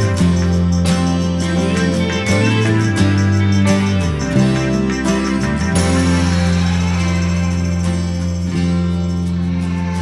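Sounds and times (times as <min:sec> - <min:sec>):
guitar music: 0:00.0 - 0:10.0
low bass tones: 0:00.0 - 0:10.0.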